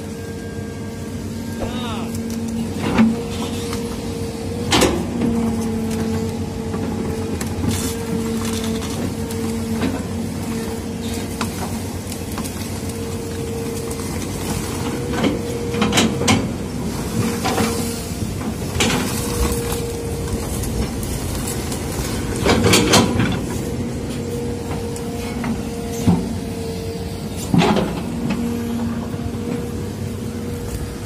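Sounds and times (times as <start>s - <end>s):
excavator diesel engine droning: 0.0s - 31.0s.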